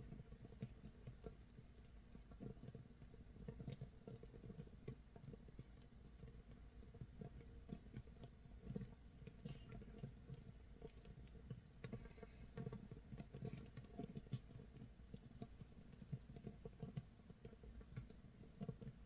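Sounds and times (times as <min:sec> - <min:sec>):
fermenting mash bubbles popping: 0:00.0 - 0:19.0.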